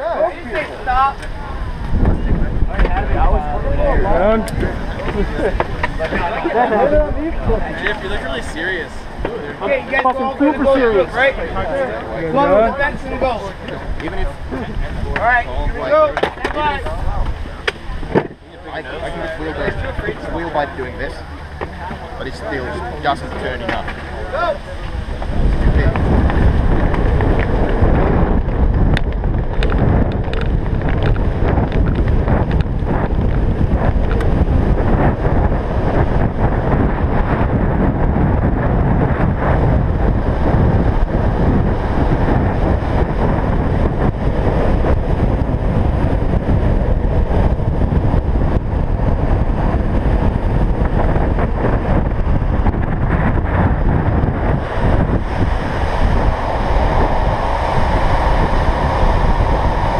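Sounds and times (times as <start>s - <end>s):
wheels rolling on asphalt: 0.0s - 59.9s
wind rushing over microphone: 0.0s - 59.9s.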